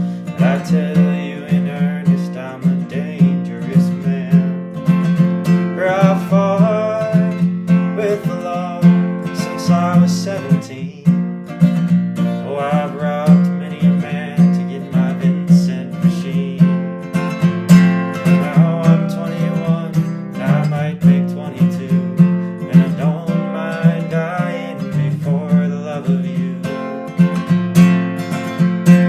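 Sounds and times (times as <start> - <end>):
fingerstyle acoustic guitar: 0.0 - 29.0.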